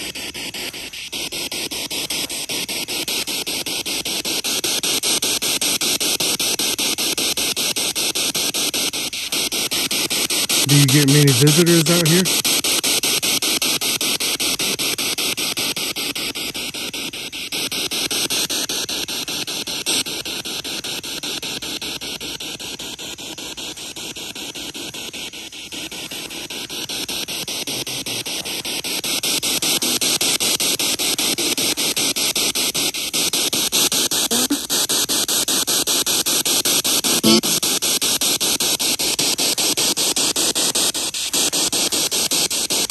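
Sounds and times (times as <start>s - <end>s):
pulsing radio static hiss: 0.0s - 42.9s.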